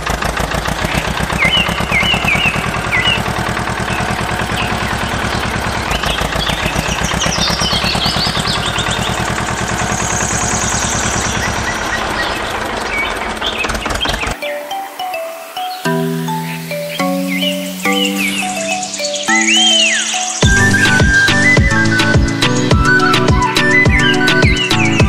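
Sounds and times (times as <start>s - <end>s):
tractor engine chugging: 0.0s - 14.4s, 15.8s - 25.0s
bird chirps: 0.8s - 25.0s.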